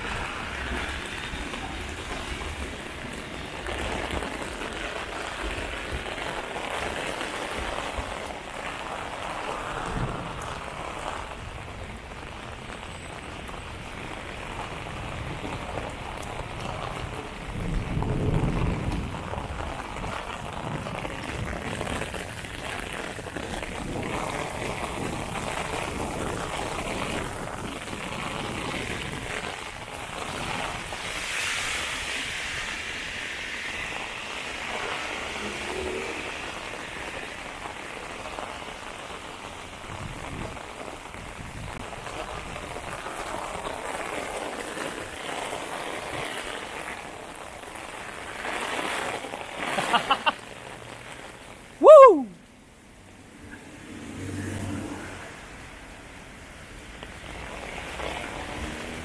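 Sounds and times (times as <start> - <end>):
heavy rain on pavement: 0.0 - 59.0
rain on an umbrella: 0.0 - 59.0.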